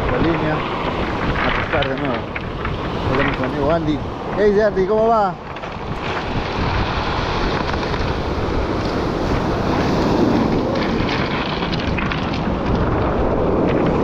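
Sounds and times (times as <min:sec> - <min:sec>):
stones shifting underfoot: 0:00.0 - 0:14.0
surf breaking on cobble beach: 0:00.0 - 0:14.0
wind buffeting microphone: 0:00.0 - 0:14.0.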